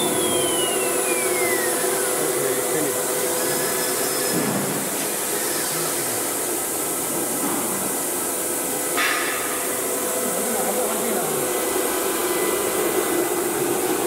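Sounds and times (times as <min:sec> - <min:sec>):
cnc router whirring: 0:00.0 - 0:14.0.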